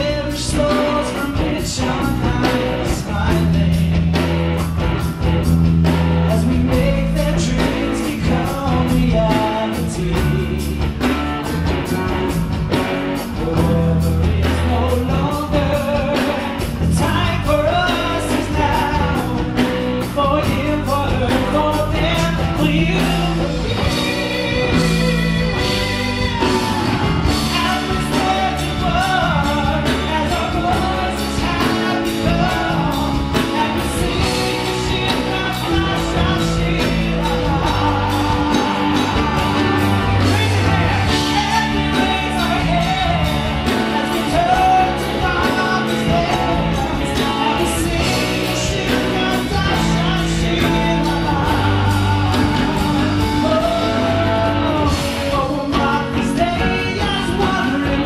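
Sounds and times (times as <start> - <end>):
man singing into microphone: 0.0 - 4.3, 6.2 - 11.6, 13.2 - 58.0
bass guitar: 0.0 - 58.0
drum kit: 0.0 - 58.0
electric guitar: 0.0 - 58.0
keyboard: 0.0 - 58.0.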